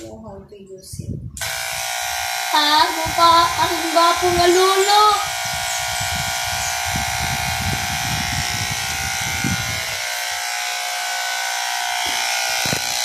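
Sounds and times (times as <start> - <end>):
electric hair clipper buzzing: 1.4 - 13.0.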